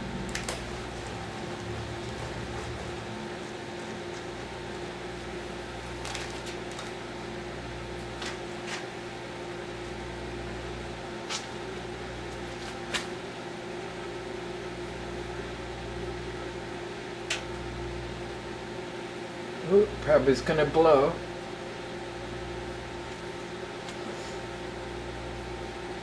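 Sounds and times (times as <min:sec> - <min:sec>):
microwave oven humming: 0:00.0 - 0:26.0.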